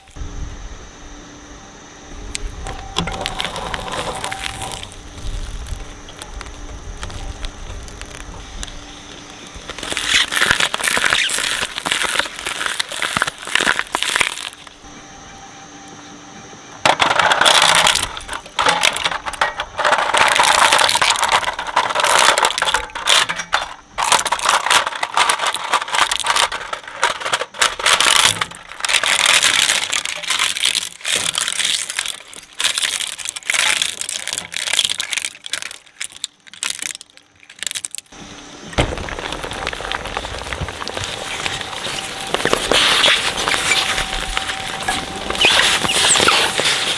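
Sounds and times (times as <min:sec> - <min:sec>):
shredder blades crunching: 0:02.1 - 0:46.9.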